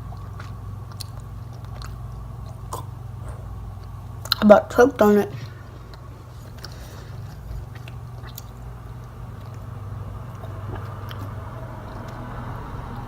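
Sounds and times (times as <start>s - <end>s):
person chewing candy: 0.0s - 4.5s, 5.5s - 12.8s
low electrical hum: 0.0s - 13.0s.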